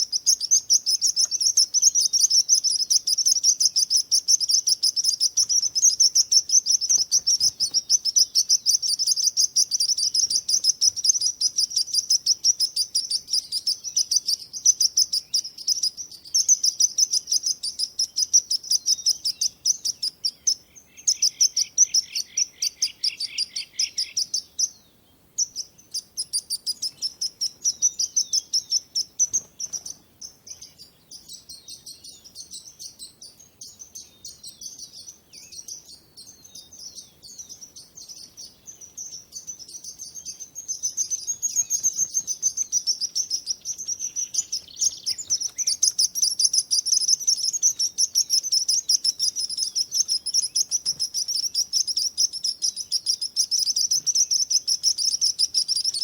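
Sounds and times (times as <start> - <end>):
lower bird chirps: 0.0 - 56.0
songbirds chirping: 0.0 - 56.0.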